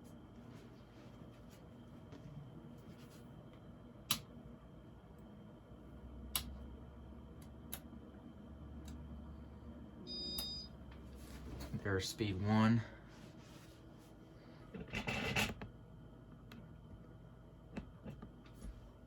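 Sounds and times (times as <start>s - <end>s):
ceiling fan hum: 0.0s - 19.0s.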